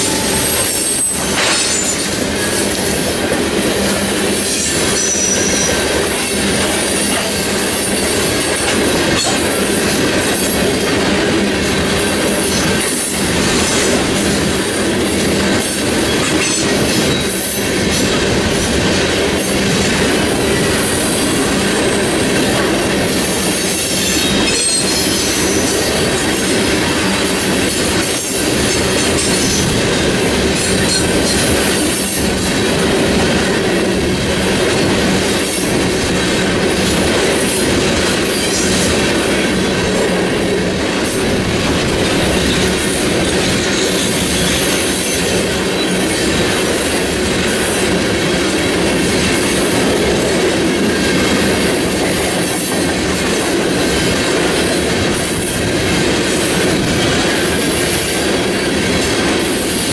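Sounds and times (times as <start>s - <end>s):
freight cars rumbling on rails: 0.0s - 59.9s.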